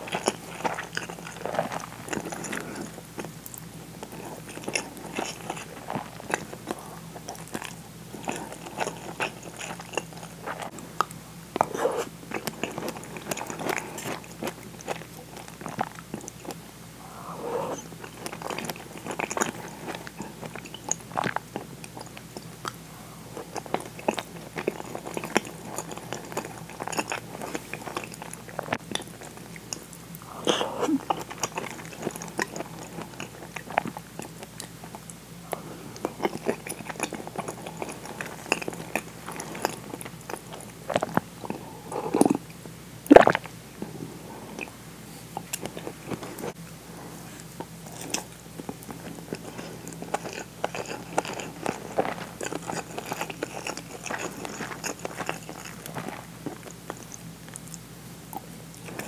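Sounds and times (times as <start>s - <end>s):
chewing and wet mouth sounds: 0.0s - 46.6s, 47.2s - 59.0s.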